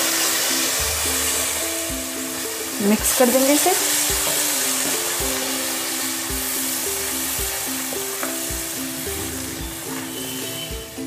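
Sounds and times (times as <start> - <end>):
background music with beat: 0.0 - 11.0
puree sizzling in hot fat: 0.0 - 11.0.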